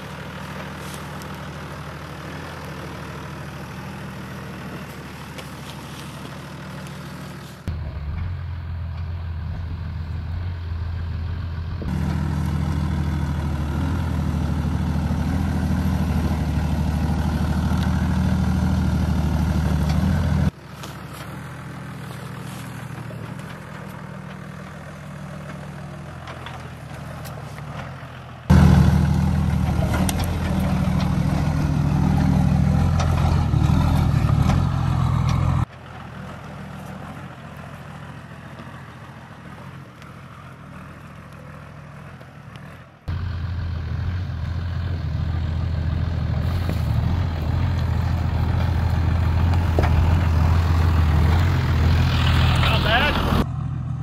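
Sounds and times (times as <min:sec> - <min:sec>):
diesel truck engines at low revs: 0:00.0 - 0:54.0.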